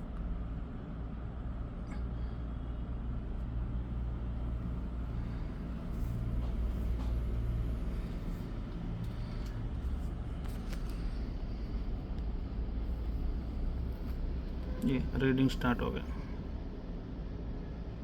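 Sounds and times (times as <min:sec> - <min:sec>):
low mechanical rumble: 0:00.0 - 0:18.0.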